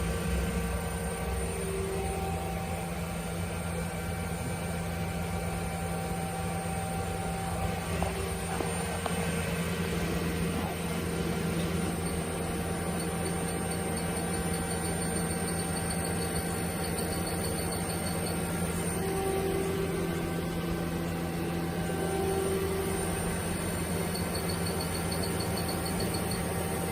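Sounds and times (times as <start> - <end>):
lathe humming and whining: 0.0 - 26.9.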